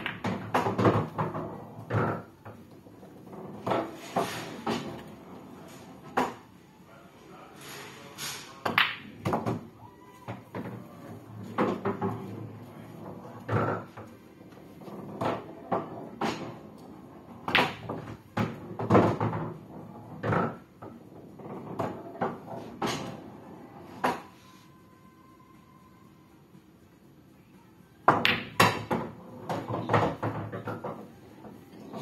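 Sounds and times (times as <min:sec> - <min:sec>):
pool balls clacking: 0:00.0 - 0:06.5, 0:08.6 - 0:24.3, 0:28.1 - 0:32.0.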